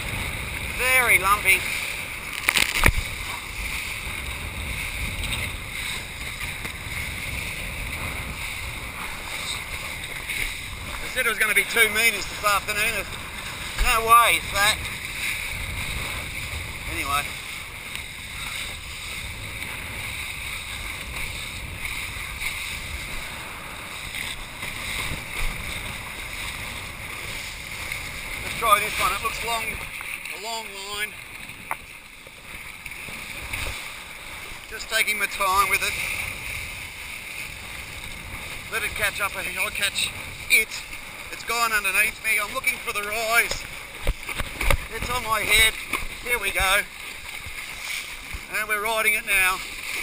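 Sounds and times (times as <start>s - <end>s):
water rushing: 0.0s - 50.0s
wind buffeting microphone: 0.0s - 50.0s.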